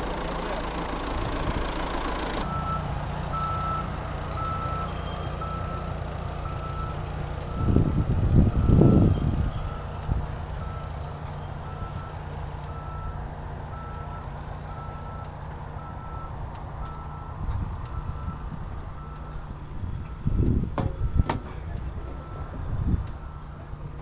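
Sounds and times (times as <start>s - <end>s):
construction machine engine running: 0.0s - 24.0s
reversing alarm beeping: 0.0s - 24.0s.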